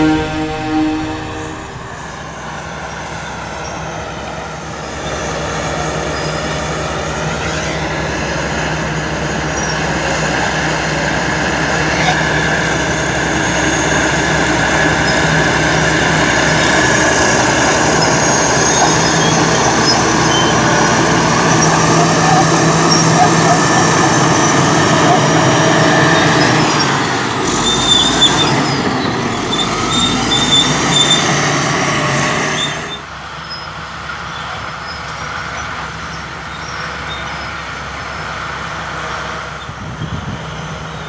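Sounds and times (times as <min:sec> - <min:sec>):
high machine whining: 0:00.0 - 0:33.1
bulldozer diesel engine: 0:00.0 - 0:41.0.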